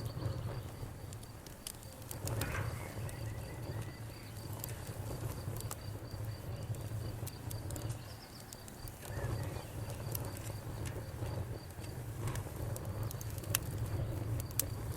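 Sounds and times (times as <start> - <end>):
campfire crackling and popping: 0.0 - 14.9
low rumble of flames: 0.0 - 14.9.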